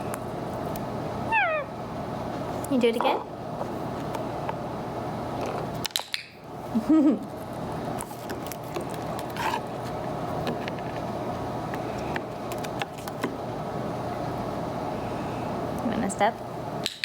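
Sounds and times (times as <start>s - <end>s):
steady low hum and hiss: 0.0s - 17.0s.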